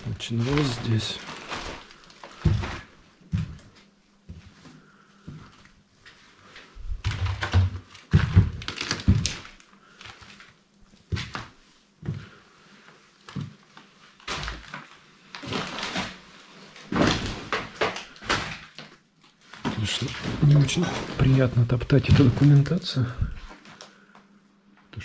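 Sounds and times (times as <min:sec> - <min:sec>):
footsteps on papers and debris: 0:00.0 - 0:12.4, 0:13.2 - 0:23.8.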